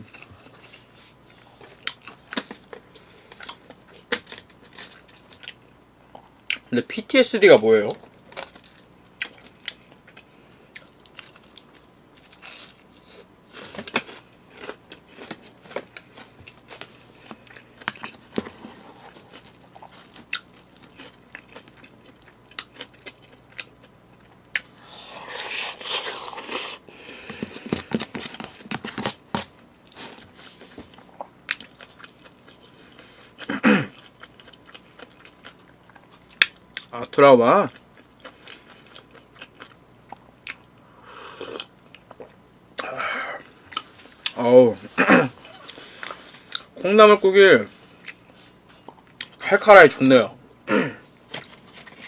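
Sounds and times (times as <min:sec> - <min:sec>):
chewing and crunching fried food: 0:00.0 - 0:06.7, 0:07.8 - 0:44.5, 0:45.4 - 0:46.8, 0:47.4 - 0:49.9, 0:51.1 - 0:52.0.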